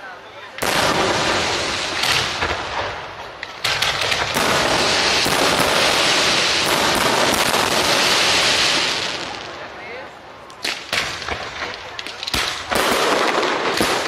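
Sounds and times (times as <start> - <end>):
firework shells bursting: 0.6 - 9.4, 10.5 - 14.0.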